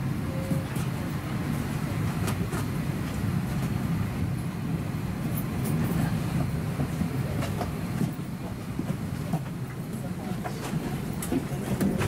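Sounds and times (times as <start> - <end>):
cabin air system rumble: 0.0 - 12.0
passengers clicking and rustling: 0.4 - 3.9, 5.3 - 12.0.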